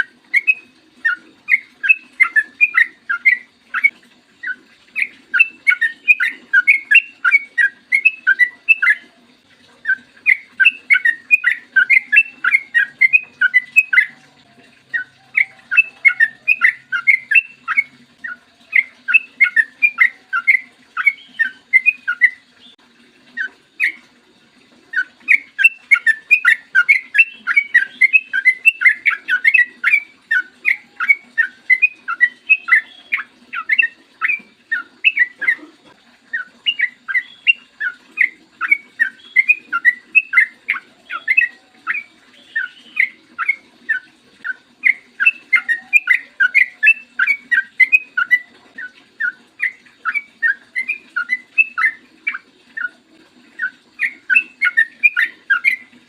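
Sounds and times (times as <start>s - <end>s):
bulbul singing bubbly notes: 0.0s - 24.2s, 24.9s - 56.0s.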